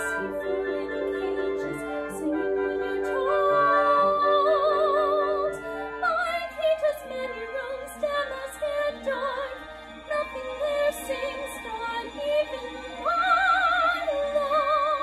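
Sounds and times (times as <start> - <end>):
instrumental accompaniment: 0.0 - 15.0
woman singing operatic ballad: 0.0 - 15.0.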